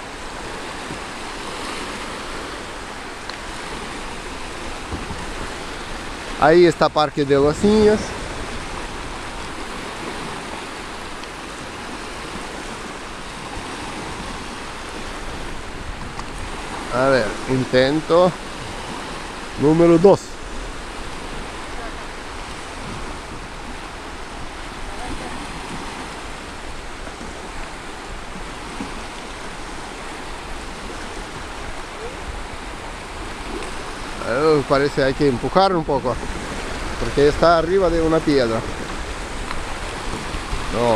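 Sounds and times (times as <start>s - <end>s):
waves washing onto shore: 0.0s - 40.9s
wind buffeting microphone: 0.0s - 40.9s.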